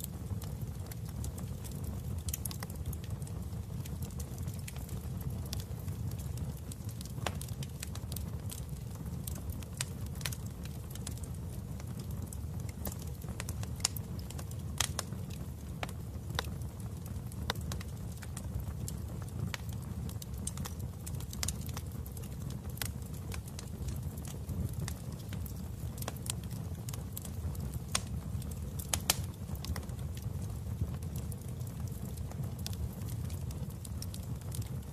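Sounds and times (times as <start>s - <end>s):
fire crackling and popping: 0.0s - 34.9s
fire flames rumbling: 0.0s - 34.9s.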